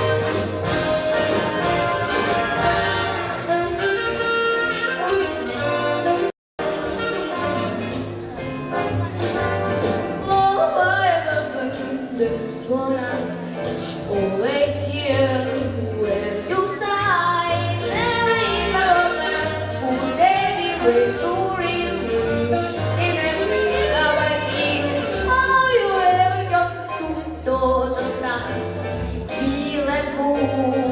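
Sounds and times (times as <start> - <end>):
orchestral accompaniment: 0.0 - 30.9.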